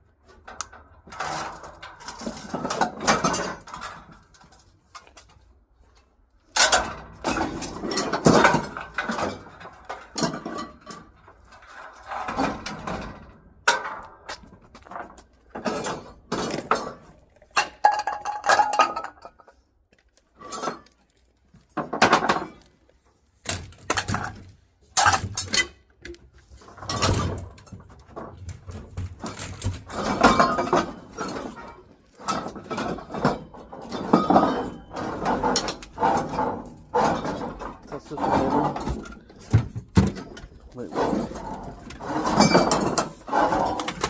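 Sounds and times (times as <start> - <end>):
metal objects clinking and clattering: 0.3 - 5.3, 6.5 - 22.8, 23.5 - 44.0.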